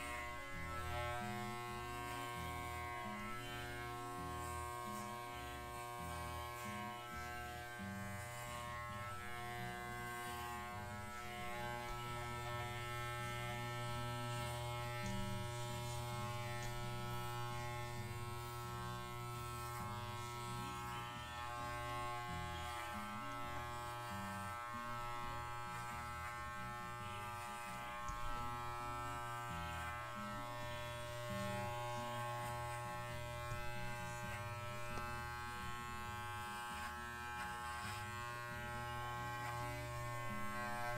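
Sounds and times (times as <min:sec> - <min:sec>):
electric pet clippers buzzing: 0:00.0 - 0:40.9.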